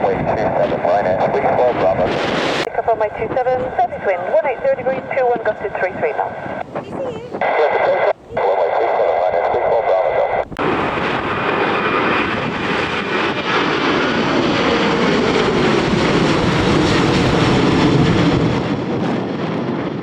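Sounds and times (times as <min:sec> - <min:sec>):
aircraft engines passing: 0:00.0 - 0:20.0
wind buffeting microphone: 0:00.0 - 0:20.0.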